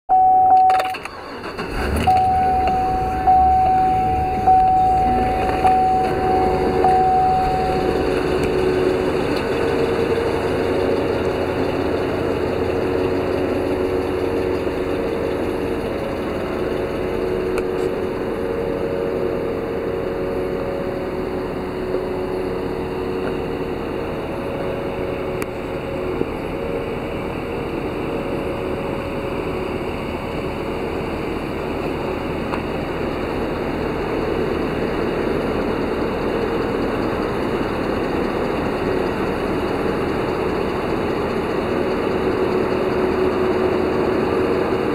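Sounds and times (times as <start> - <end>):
steady high whine: 0.1 - 44.9
truck engine idling: 0.1 - 44.9.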